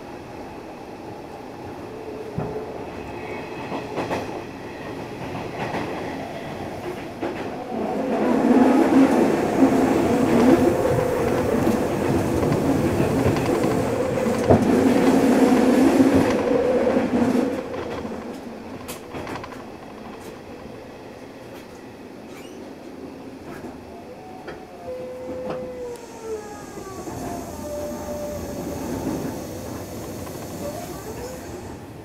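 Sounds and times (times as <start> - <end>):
steady train hum: 0.0 - 32.0
train wheels rumbling on rails: 0.0 - 32.0.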